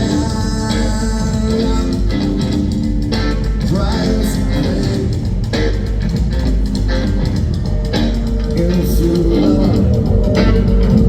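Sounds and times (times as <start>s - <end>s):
bass line: 0.0s - 11.0s
rock band playing live: 0.0s - 11.0s
steady drums: 0.0s - 11.0s.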